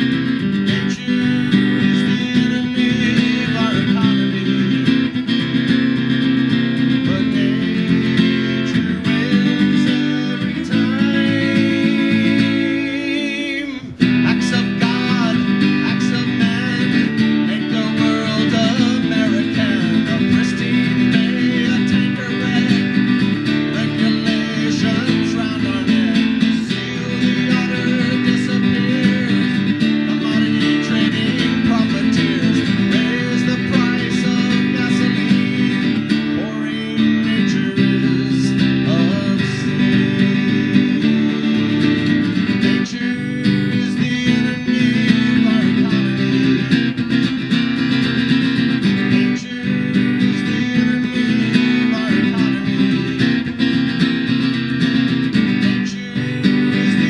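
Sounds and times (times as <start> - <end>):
acoustic guitar strumming: 0.0 - 57.0
man singing into a microphone: 0.0 - 57.0.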